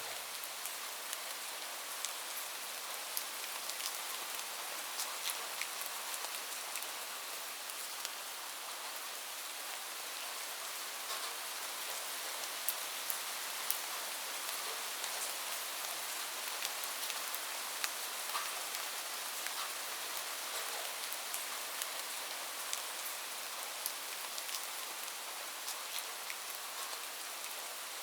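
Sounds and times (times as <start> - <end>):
steady rainfall: 0.0 - 28.0.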